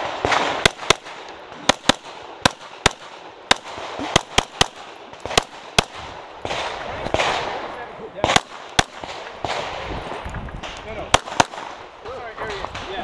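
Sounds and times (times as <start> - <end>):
pistol shots: 0.0 - 9.9, 11.0 - 11.9.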